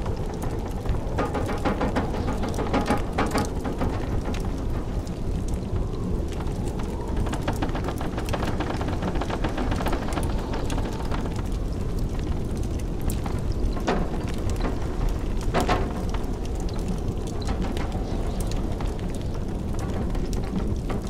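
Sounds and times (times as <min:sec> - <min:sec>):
blizzard wind blowing: 0:00.0 - 0:21.0
wood fire crackling: 0:00.0 - 0:21.0.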